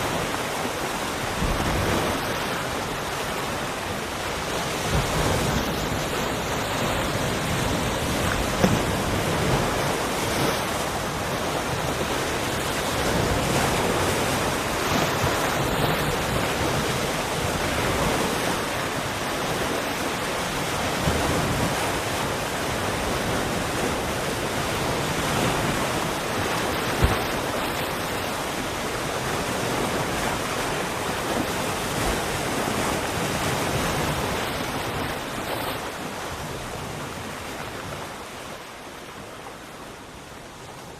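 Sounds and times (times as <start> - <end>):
sea waves rushing: 0.0 - 40.9.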